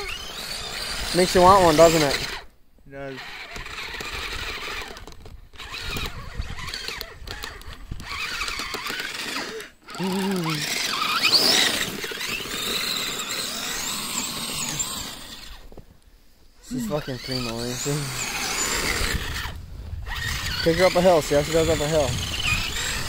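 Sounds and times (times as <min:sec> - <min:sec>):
electric motor and gears whining: 0:00.0 - 0:15.8, 0:16.6 - 0:23.0.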